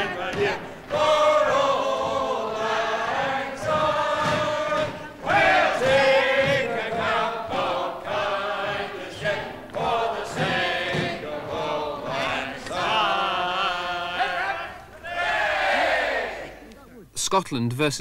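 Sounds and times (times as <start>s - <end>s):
group of people singing: 0.0s - 16.7s.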